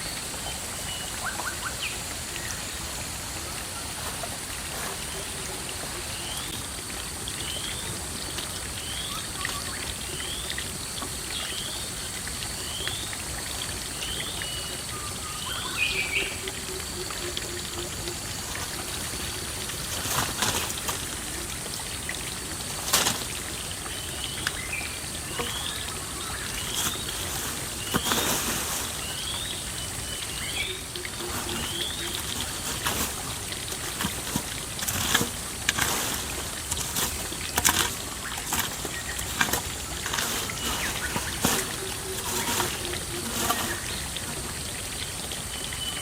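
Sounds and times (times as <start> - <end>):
water trickling: 0.0 - 46.0.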